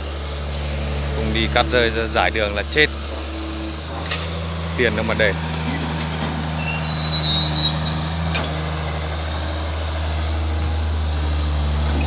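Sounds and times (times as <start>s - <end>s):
diesel engines running: 0.0s - 12.0s.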